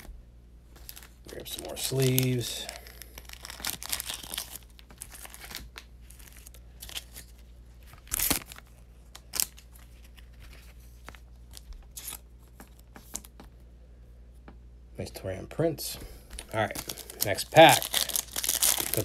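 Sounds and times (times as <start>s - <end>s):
plastic card sleeves crinkling: 0.7s - 13.4s, 16.3s - 19.0s.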